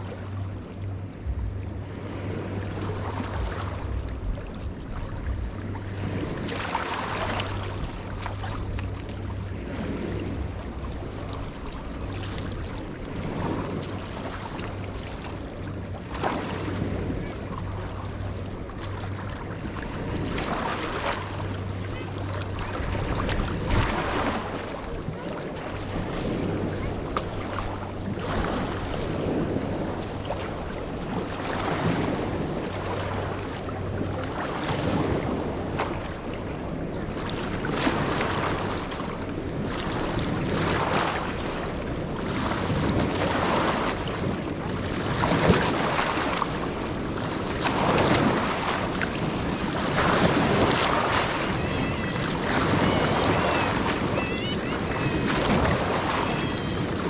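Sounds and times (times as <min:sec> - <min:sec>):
low steady hum: 0:00.0 - 0:57.0
river waves lapping on shore: 0:00.0 - 0:57.0
wind on microphone: 0:00.0 - 0:57.0.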